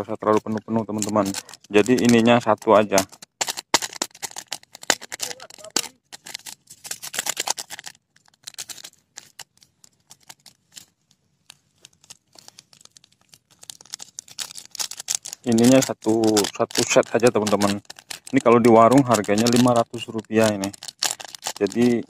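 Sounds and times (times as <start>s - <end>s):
sachet crinkling and tearing: 0.0s - 22.0s.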